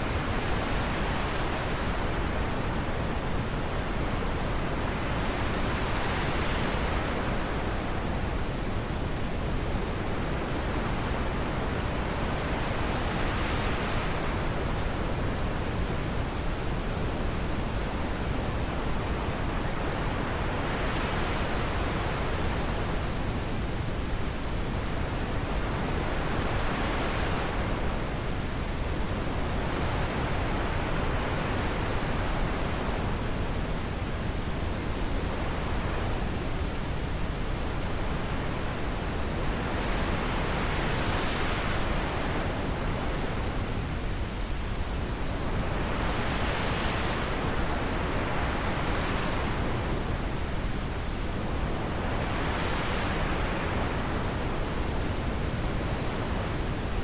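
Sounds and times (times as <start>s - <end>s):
steady wind blowing: 0.0s - 57.0s.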